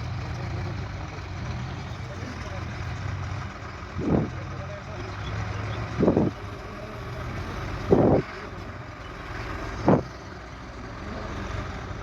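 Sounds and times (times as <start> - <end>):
heavy machine engine rumbling: 0.0 - 12.0.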